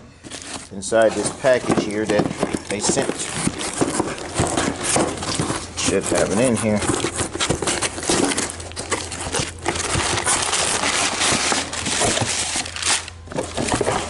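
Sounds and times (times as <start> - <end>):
packaging crinkling and rustling: 0.2 - 14.0.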